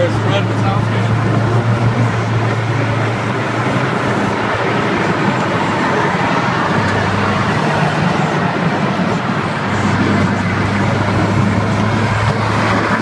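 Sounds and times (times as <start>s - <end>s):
car engine droning in cabin: 0.0s - 13.0s
tyre and road noise: 0.0s - 13.0s.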